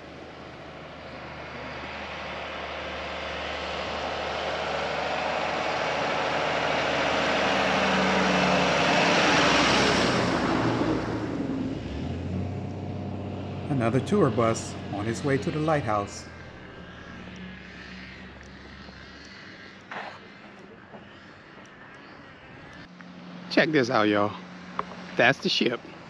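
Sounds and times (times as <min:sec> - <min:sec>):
bus driving past: 0:00.0 - 0:26.0.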